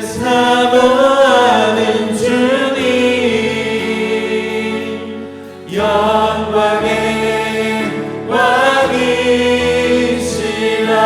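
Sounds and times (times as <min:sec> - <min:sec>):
choir singing a slow praise song: 0:00.0 - 0:11.0.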